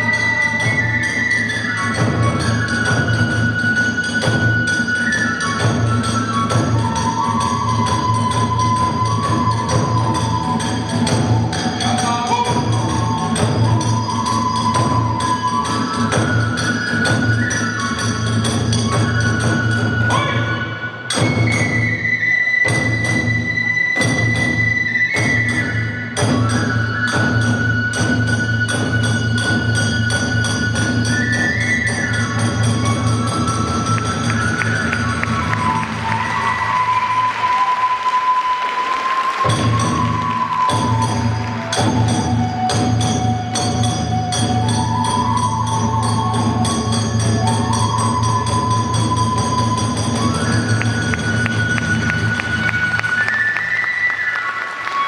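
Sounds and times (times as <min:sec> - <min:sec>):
bamboo flute long high notes: 0:00.0 - 0:55.0.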